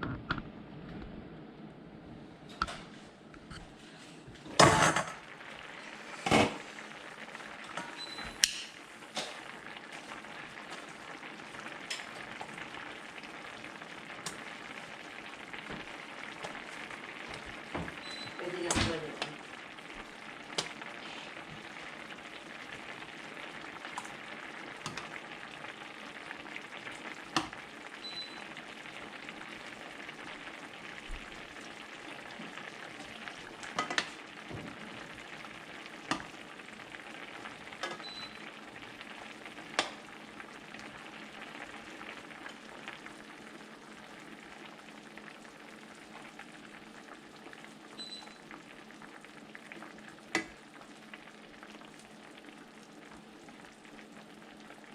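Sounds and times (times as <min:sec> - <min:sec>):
food sizzling in a pan: 0:04.4 - 0:54.9.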